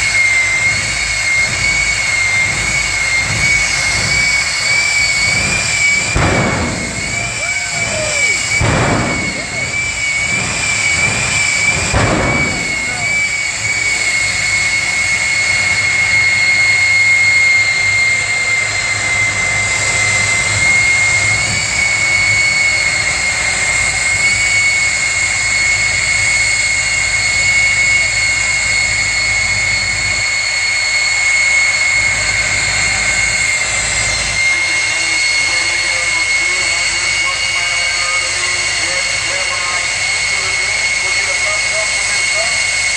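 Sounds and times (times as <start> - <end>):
jet engine turbine whine: 0.0 - 42.9.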